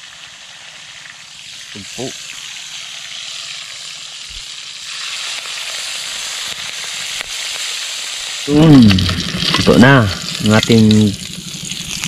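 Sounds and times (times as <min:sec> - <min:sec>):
seafood sizzling in hot oil: 0:00.0 - 0:12.0.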